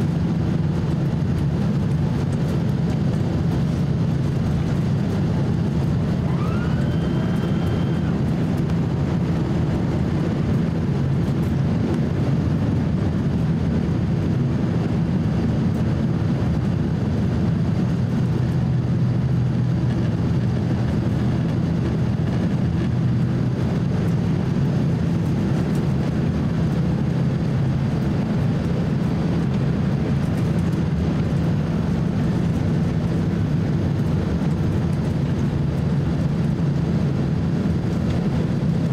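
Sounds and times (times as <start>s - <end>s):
airliner cabin engine drone: 0.0s - 38.9s
low hum: 0.0s - 38.9s.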